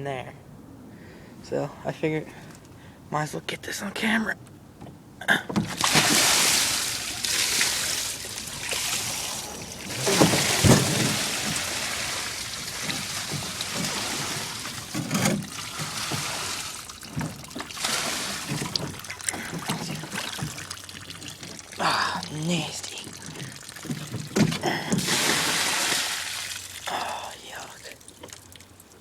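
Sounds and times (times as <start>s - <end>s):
water pouring and splashing: 5.6s - 29.0s.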